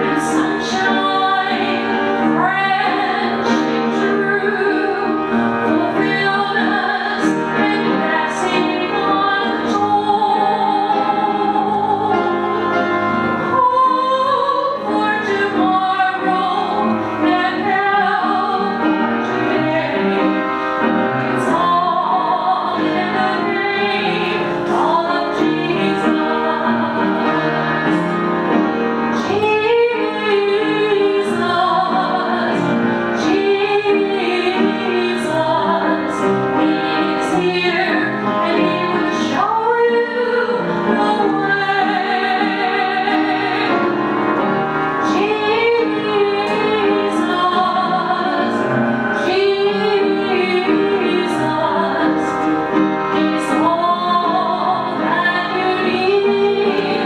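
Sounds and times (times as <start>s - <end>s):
woman singing with vibrato: 0.0s - 12.5s, 13.4s - 20.4s, 21.3s - 28.0s, 29.2s - 44.0s, 45.0s - 52.4s, 53.2s - 57.0s
instrumental accompaniment: 0.0s - 57.0s.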